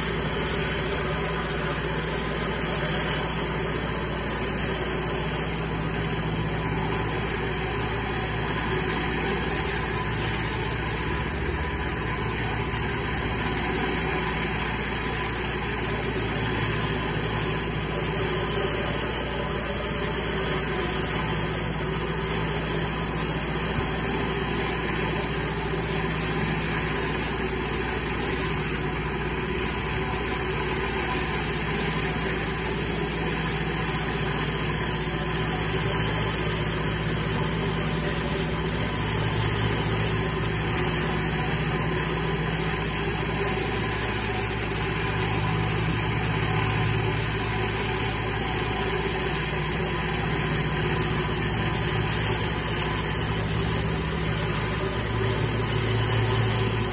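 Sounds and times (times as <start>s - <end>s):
pressure washer running: 0.0s - 56.9s.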